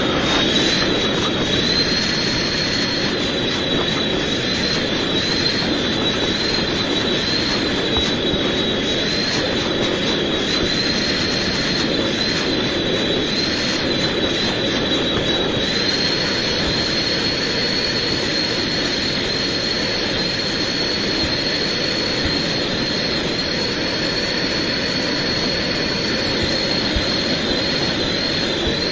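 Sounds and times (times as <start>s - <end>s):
rug cleaning machine whining: 0.0s - 28.9s.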